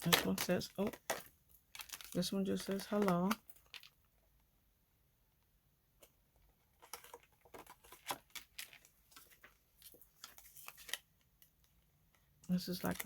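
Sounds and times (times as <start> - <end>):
light rustling of packaging: 0.0 - 4.5, 6.0 - 13.0.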